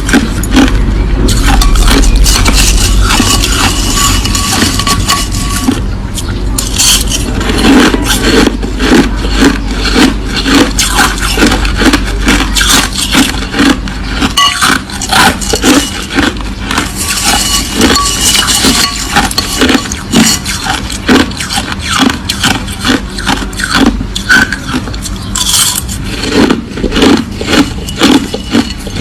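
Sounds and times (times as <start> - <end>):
crushed ice being chewed: 0.0 - 29.0
low hum: 0.0 - 29.0.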